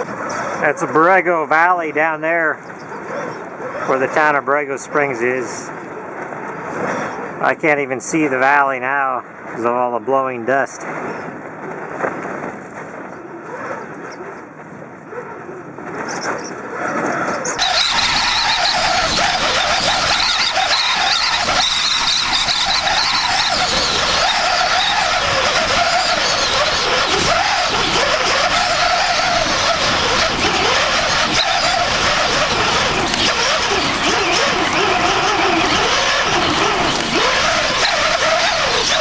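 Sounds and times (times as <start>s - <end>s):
storm wind blowing hard: 0.0s - 39.0s
wind whistling: 0.0s - 39.0s.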